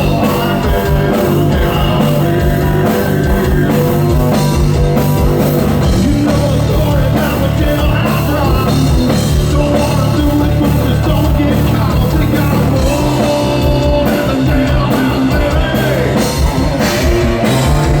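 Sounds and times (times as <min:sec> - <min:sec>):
person singing: 0:00.0 - 0:04.6, 0:05.8 - 0:18.0
drum kit: 0:00.0 - 0:18.0
loud rock music: 0:00.0 - 0:18.0.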